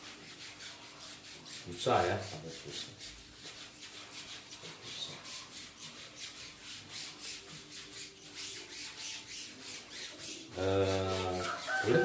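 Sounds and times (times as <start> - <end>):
hand rubbing over stencil: 0.0 - 12.0.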